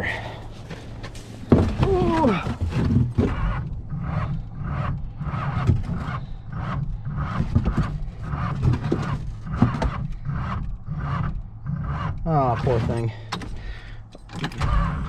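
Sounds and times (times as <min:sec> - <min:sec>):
car engine running rough: 0:00.0 - 0:15.0.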